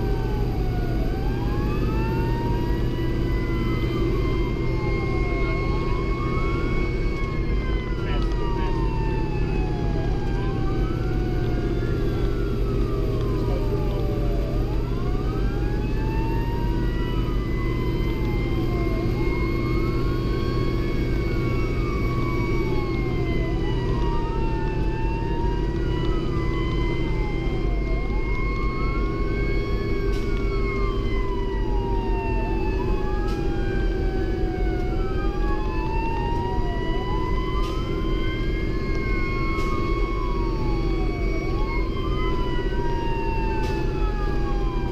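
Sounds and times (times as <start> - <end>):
engine and road rumble: 0.0 - 44.9
fire engine siren wailing: 0.0 - 44.9
second siren tone: 0.0 - 44.9.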